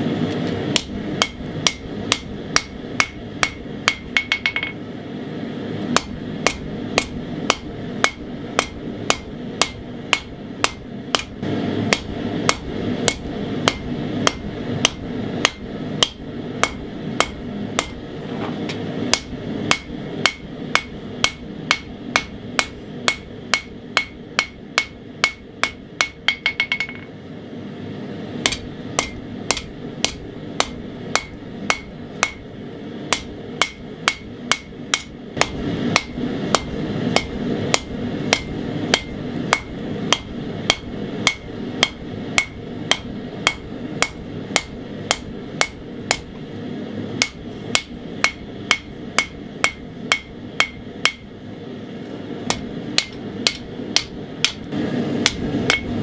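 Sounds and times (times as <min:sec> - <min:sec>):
hammer striking steel on anvil: 0:00.7 - 0:04.8, 0:05.9 - 0:27.1, 0:28.4 - 0:32.5, 0:33.1 - 0:46.4, 0:47.2 - 0:51.3, 0:52.5 - 0:56.0.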